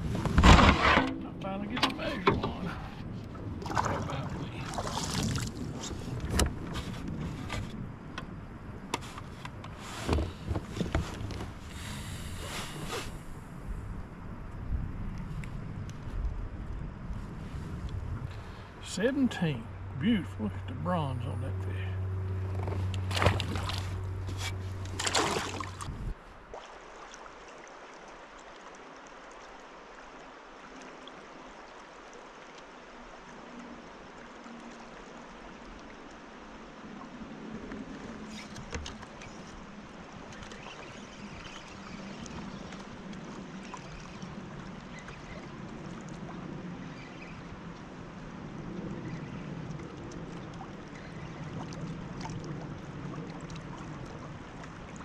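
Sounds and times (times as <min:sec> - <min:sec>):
water lapping against a hull: 0:00.0 - 0:55.0.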